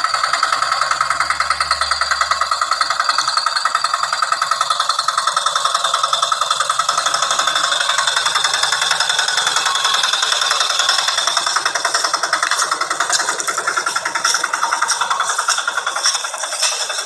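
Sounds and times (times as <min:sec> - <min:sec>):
small engine rattling: 0:00.0 - 0:17.0.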